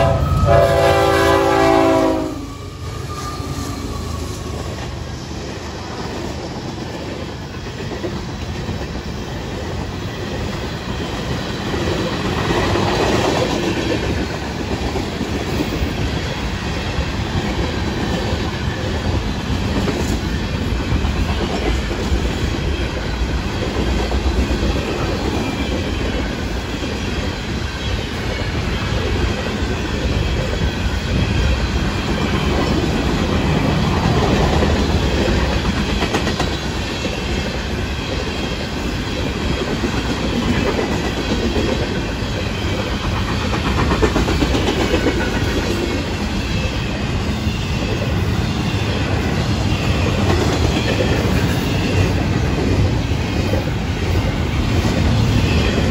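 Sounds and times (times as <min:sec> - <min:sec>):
freight train wheels on rails: 0:00.0 - 0:55.9.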